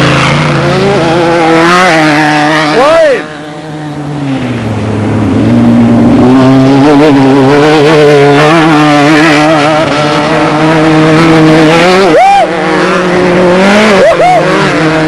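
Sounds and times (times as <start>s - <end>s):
vehicle engine at high revs: 0.0s - 15.0s.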